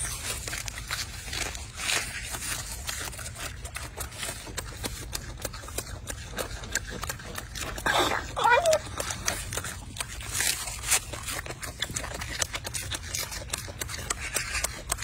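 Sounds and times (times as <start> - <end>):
leafy greens crackling: 0.0 - 15.0.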